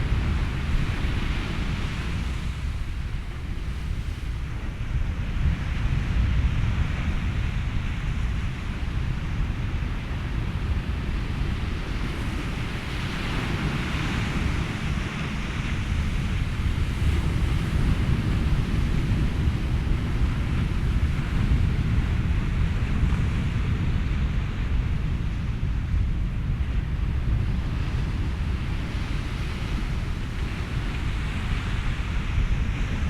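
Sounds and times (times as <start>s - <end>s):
ocean waves: 0.0s - 33.0s
wind: 0.0s - 33.0s.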